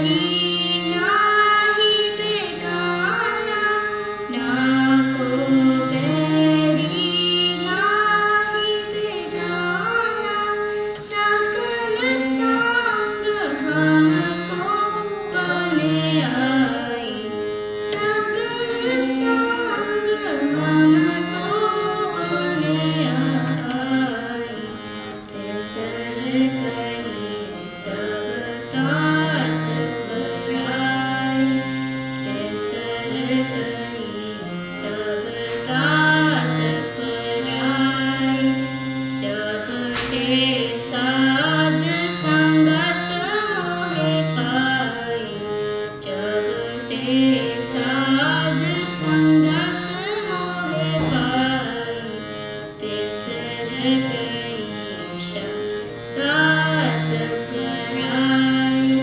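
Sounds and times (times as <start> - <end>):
harmonium chords: 0.0 - 59.0
woman singing: 0.0 - 59.0.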